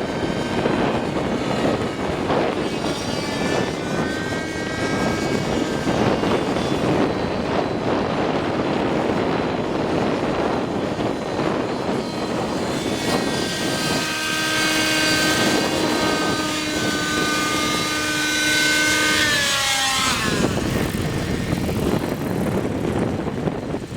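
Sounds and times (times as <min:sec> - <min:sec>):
rc helicopter flying: 0:00.0 - 0:23.9
steady multi-tone whine: 0:00.0 - 0:23.9
wind noise on microphone: 0:00.0 - 0:23.9.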